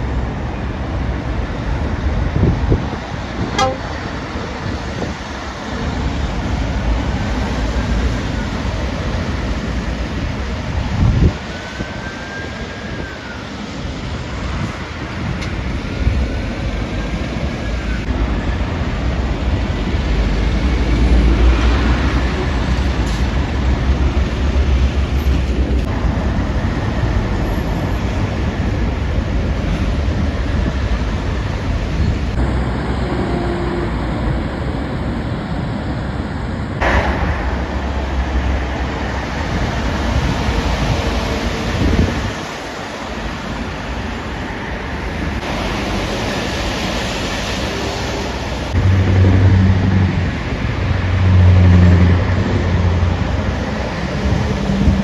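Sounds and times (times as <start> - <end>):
heavy trucks passing: 0.0 - 55.0.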